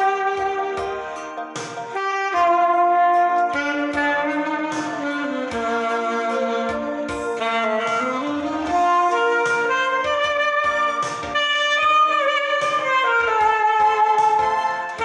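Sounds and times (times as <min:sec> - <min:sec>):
backing track with drum beat: 0:00.0 - 0:15.0
solo melody instrument with vibrato: 0:00.0 - 0:15.0.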